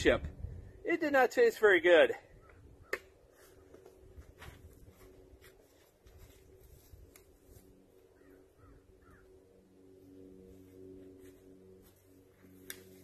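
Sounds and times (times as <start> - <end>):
low hum: 0.0 - 0.9, 2.2 - 13.0.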